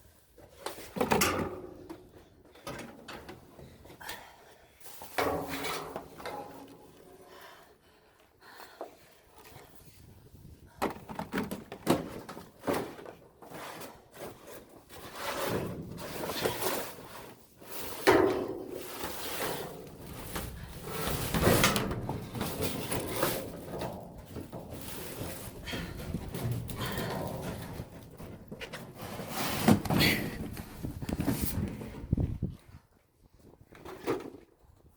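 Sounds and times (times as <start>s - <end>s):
hard objects clunking and scraping: 0.4s - 4.2s, 5.0s - 7.1s, 10.6s - 32.6s, 33.4s - 34.9s.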